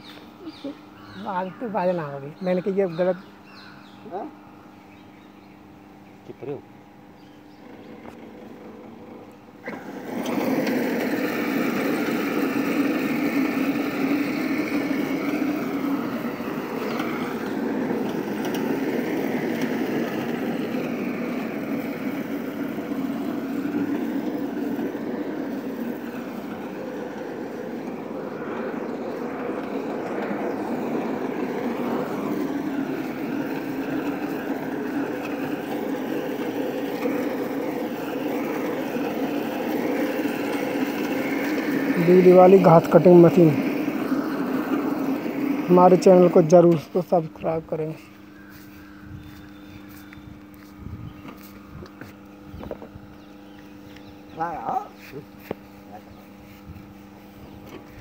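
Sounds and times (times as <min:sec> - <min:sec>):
electric lawn mower motor running: 0:00.0 - 0:58.0.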